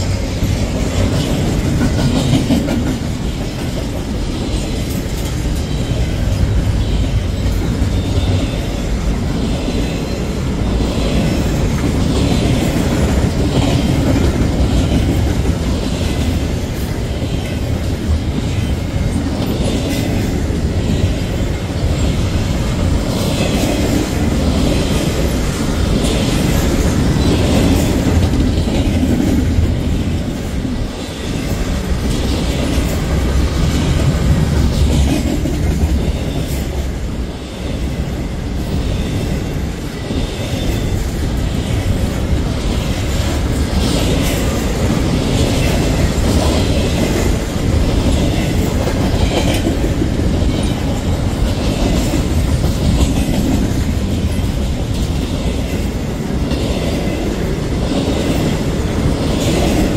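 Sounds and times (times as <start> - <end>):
wheels clickety-clack: 0.0 - 37.3, 37.9 - 59.9
freight train wheels rumbling: 0.0 - 59.9.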